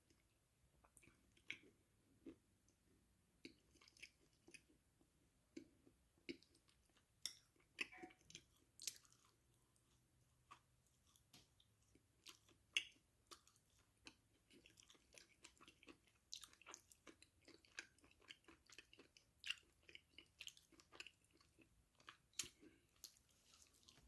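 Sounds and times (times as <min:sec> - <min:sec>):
chewing crunchy food: 0:00.1 - 0:02.8, 0:03.4 - 0:04.9, 0:05.5 - 0:24.0.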